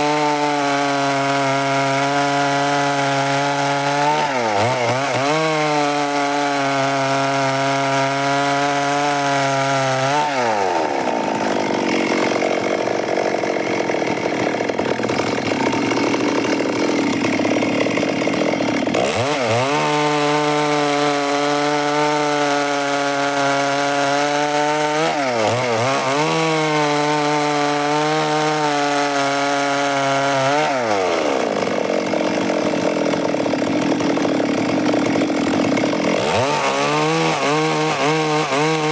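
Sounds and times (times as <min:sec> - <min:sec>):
chainsaw cutting wood: 0:00.0 - 0:38.9
chainsaw running at high revs: 0:00.0 - 0:38.9.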